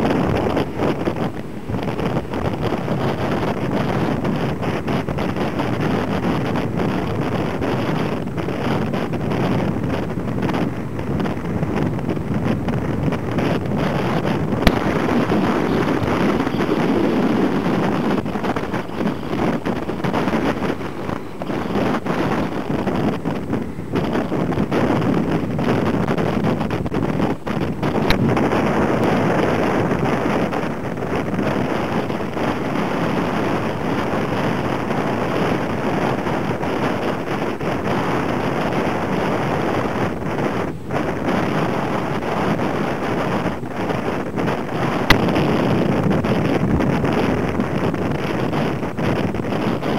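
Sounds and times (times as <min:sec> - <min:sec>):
storm surf breaking: 0:00.0 - 0:49.9
wind buffeting microphone: 0:00.0 - 0:49.9.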